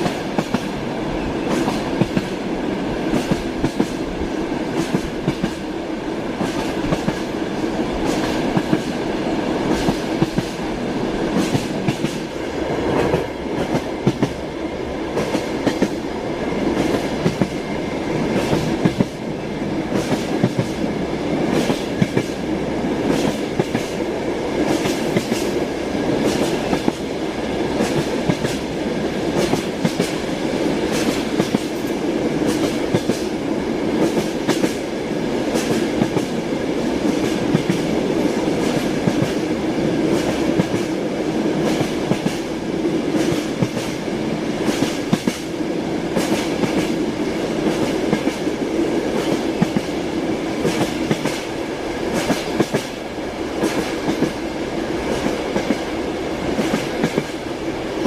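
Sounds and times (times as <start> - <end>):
train wheels clacking: 0.0 - 14.4, 15.1 - 41.0, 41.6 - 58.0
train running rumble: 0.0 - 58.0.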